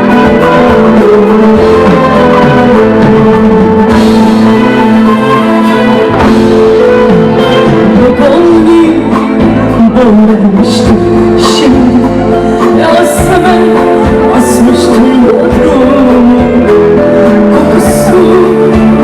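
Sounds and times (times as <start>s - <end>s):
live band with singer: 0.0s - 19.0s.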